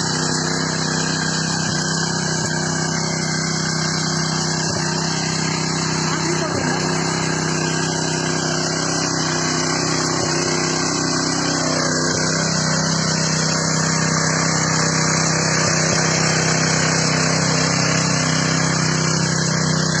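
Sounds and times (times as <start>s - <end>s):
tiller engine running steadily: 0.0s - 20.0s.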